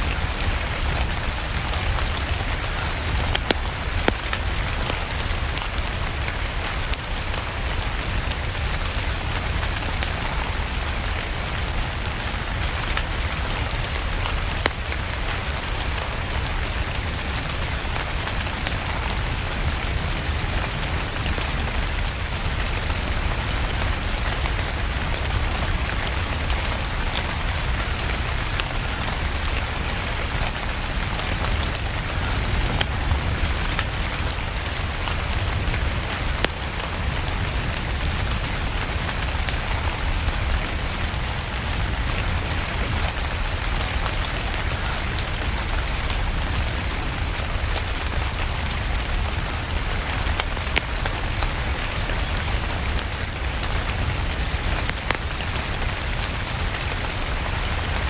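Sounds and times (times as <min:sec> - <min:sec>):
fire popping: 0:00.0 - 0:58.0
log fire crackling: 0:00.0 - 0:58.0
rain falling: 0:00.0 - 0:58.0.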